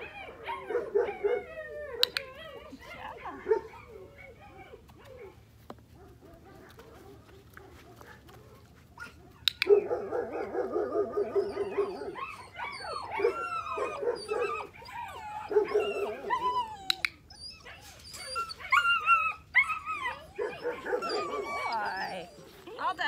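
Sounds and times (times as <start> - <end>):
puppy whining and yipping: 0.0 - 5.4, 8.4 - 23.0.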